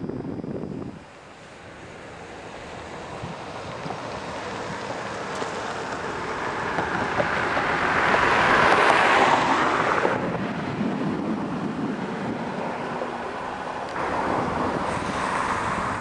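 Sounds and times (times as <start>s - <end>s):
loud rushing noise: 2.8s - 16.0s.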